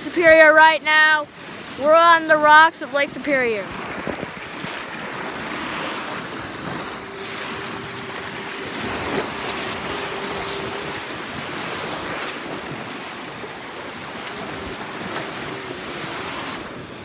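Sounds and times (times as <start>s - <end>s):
waves lapping on rocky shore: 0.0s - 17.0s
wind buffeting microphone: 0.0s - 17.0s.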